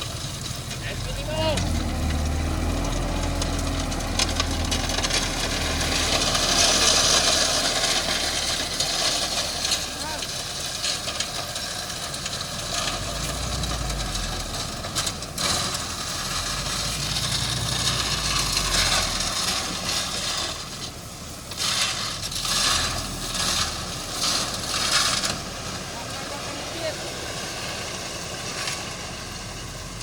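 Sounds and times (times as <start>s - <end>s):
earth and gravel crunching: 0.0s - 27.0s
heavy machine engine running: 0.0s - 30.0s.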